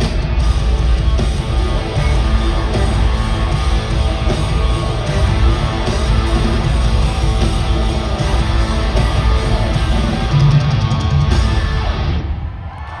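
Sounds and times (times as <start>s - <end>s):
electric guitar: 0.0s - 12.5s
heavy bass: 0.0s - 12.5s
live rock band: 0.0s - 12.5s
drums: 0.0s - 13.0s.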